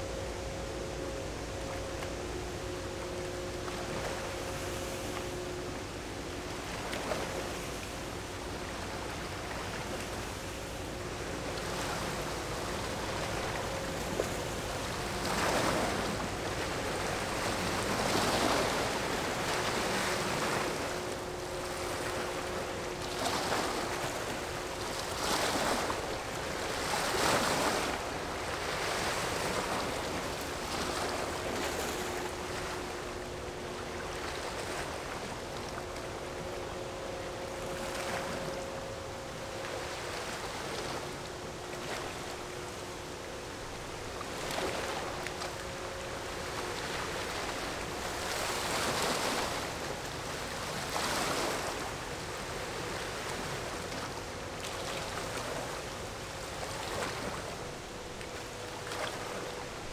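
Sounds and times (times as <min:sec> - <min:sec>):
faint two-tone hum: 0:00.0 - 0:59.9
rushing water: 0:00.0 - 0:59.9
wind: 0:00.0 - 0:59.9.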